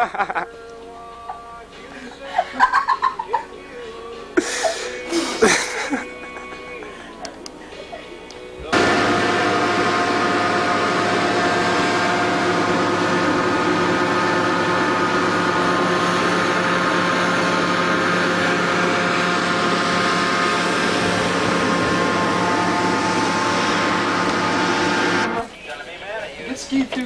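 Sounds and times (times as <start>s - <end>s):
machine humming: 0.0s - 25.6s.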